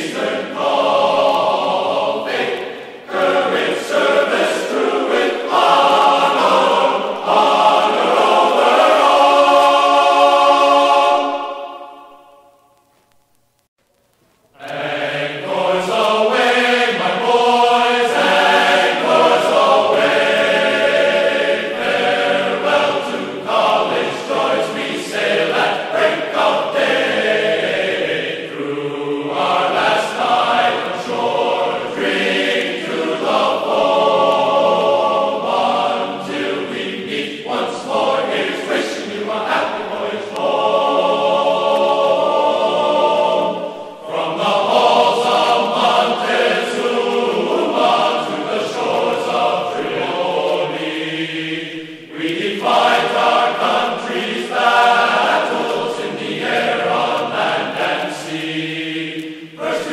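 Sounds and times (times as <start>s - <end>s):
choir singing sustained notes: 0.0s - 12.9s, 14.5s - 59.9s.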